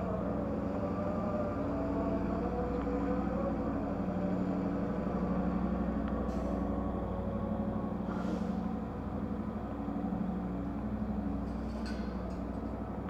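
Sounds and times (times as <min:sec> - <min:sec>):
diesel train engine idling hum: 0:00.0 - 0:13.0.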